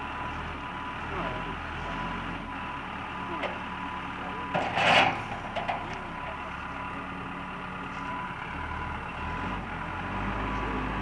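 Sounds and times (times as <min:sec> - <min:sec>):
backhoe engine rumbling: 0:00.0 - 0:11.0.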